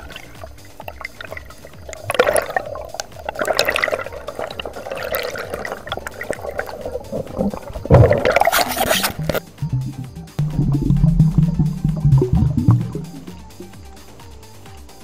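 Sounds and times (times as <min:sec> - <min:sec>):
underwater bubbles gurgling: 0:00.0 - 0:13.9.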